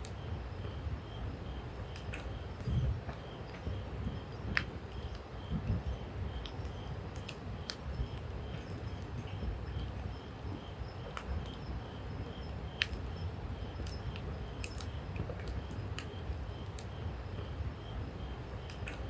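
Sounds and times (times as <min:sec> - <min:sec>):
low steady rumble: 0:00.0 - 0:19.0
faint high chirp: 0:01.0 - 0:17.1
campfire crackling and popping: 0:01.6 - 0:19.0.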